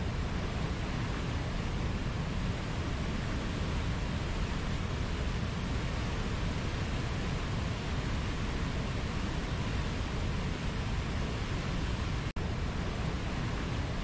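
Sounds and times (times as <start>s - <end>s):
river and waterfall rushing: 0.0s - 14.0s.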